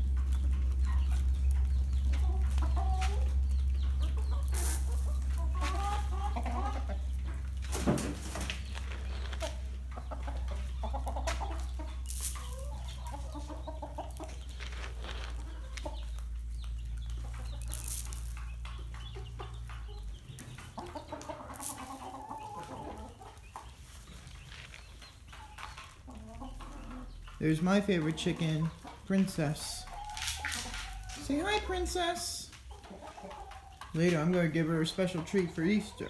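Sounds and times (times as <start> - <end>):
low steady hum: 0.0 - 33.3
hens clucking: 0.0 - 36.0.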